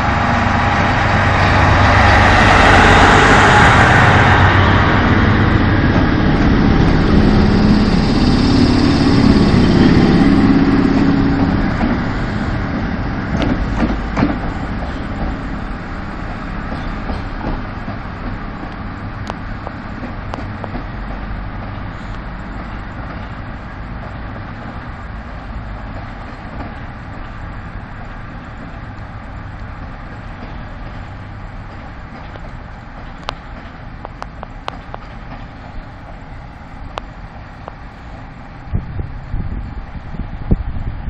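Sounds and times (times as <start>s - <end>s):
locomotive rumbling: 0.0s - 41.0s.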